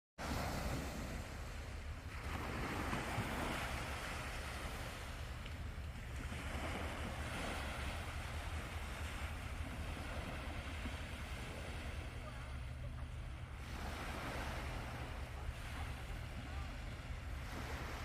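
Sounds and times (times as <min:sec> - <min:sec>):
sea waves washing onto beach: 0:00.2 - 0:18.0
wind rumble on microphone: 0:00.2 - 0:18.0.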